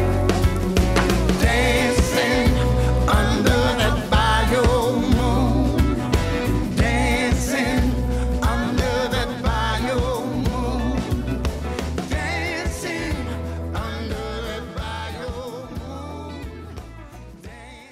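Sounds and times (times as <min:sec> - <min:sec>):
song with singing bass and drums: 0:00.0 - 0:17.9.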